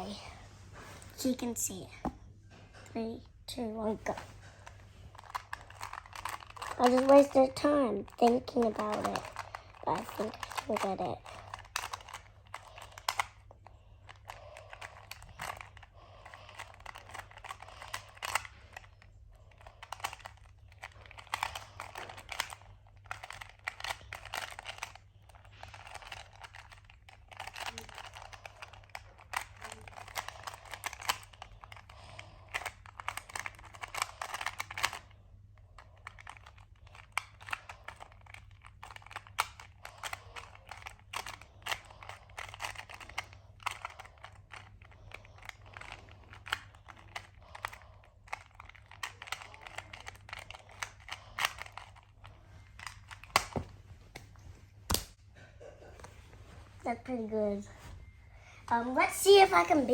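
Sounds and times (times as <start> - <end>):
puzzle cube clicking as turned: 4.1 - 54.2.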